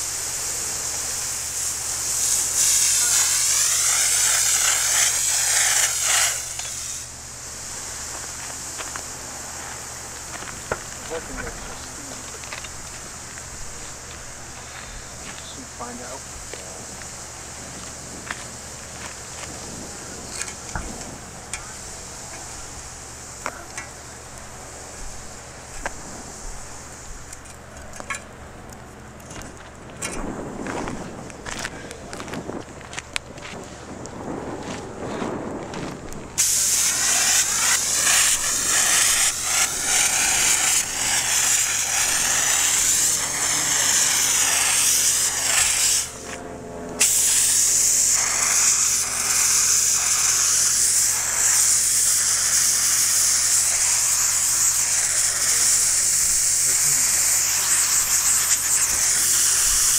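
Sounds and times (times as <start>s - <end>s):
extinguishing agent hissing from spray: 0.0s - 27.4s, 36.3s - 46.2s, 47.0s - 59.9s.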